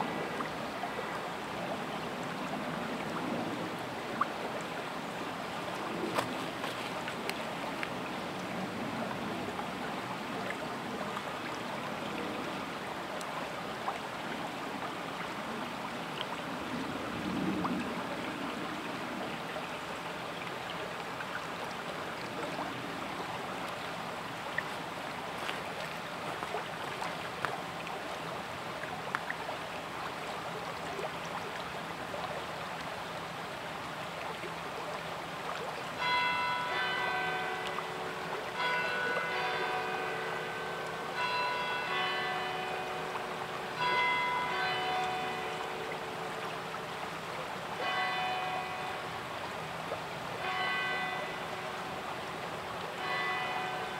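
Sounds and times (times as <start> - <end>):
stream flowing over rocks: 0.0 - 53.9.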